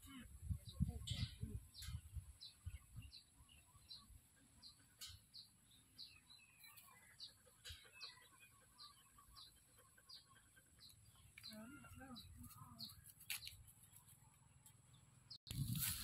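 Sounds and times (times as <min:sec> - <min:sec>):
bird chirping: 0:00.1 - 0:15.6.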